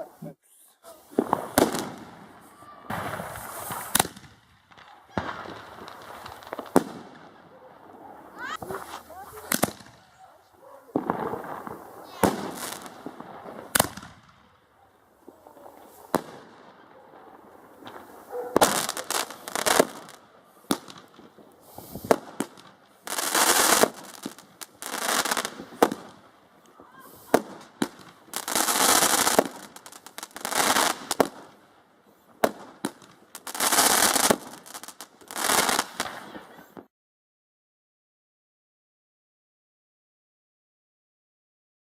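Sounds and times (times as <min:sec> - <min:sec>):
hissing crackling bursts: 0:00.0 - 0:36.6
firework bangs: 0:00.8 - 0:31.6, 0:32.3 - 0:36.9.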